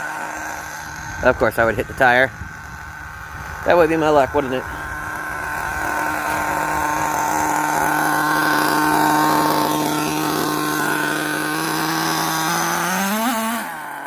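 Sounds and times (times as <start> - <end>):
small engine high buzzing whine: 0.0 - 14.0.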